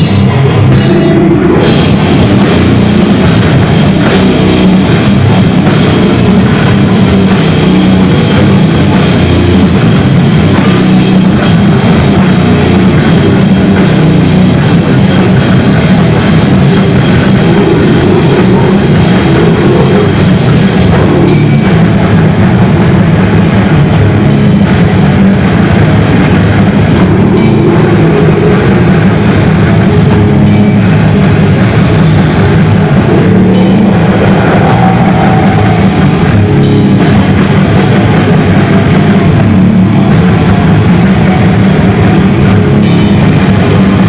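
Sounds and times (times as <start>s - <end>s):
metal band playing live: 0.0s - 44.0s.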